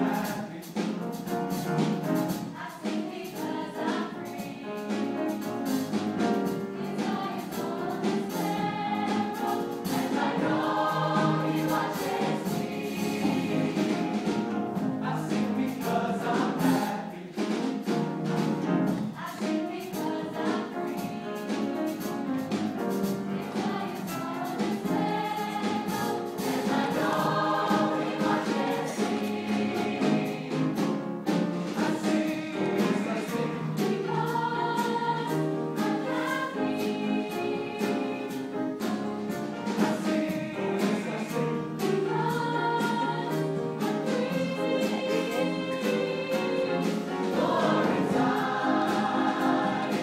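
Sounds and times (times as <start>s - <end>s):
choir singing gospel: 0.0s - 50.0s
drum kit: 0.0s - 50.0s
piano: 0.0s - 50.0s.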